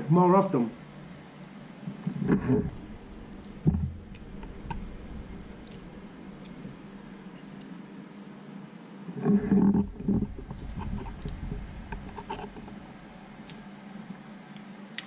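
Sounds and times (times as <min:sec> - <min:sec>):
faint eating squishes and ticks: 0:00.8 - 0:08.0, 0:09.4 - 0:15.0.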